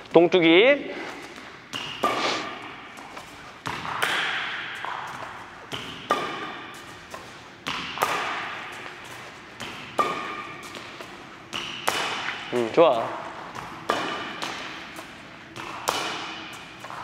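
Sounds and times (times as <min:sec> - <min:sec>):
racket hitting shuttlecock: 0:01.1 - 0:17.0.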